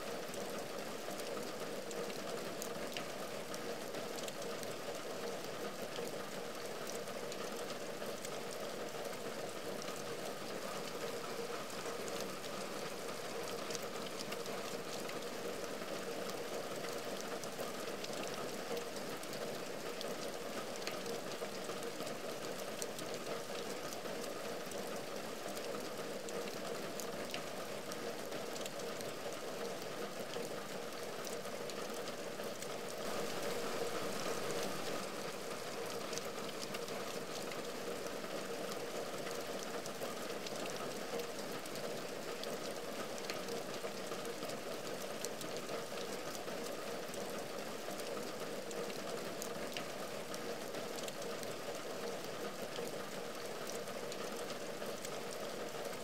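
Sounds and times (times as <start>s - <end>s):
heavy rain on a window: 0.0s - 56.0s.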